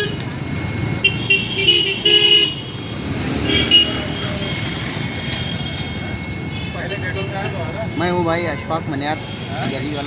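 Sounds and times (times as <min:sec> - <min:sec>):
vehicle horns honking: 0:00.0 - 0:00.2, 0:01.0 - 0:09.8
road traffic noise: 0:00.0 - 0:10.0.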